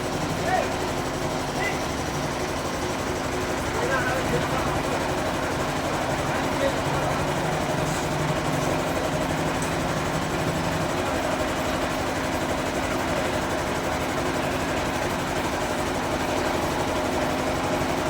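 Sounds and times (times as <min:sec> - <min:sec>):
sawmill machinery droning: 0:00.0 - 0:18.0.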